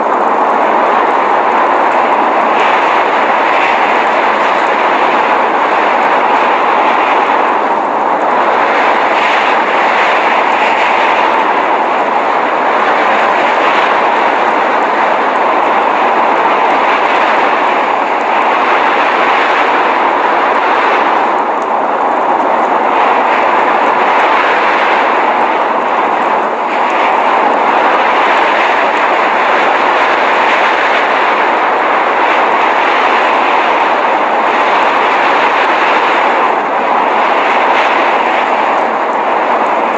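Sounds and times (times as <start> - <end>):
blizzard rushing hiss: 0.0 - 39.9.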